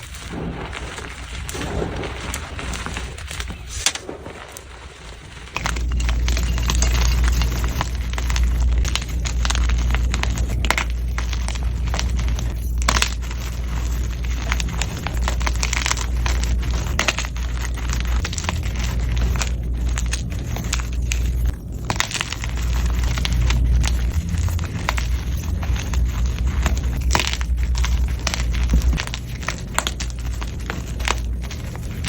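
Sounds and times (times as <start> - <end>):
chalk blocks crunching: 0.0 - 32.0.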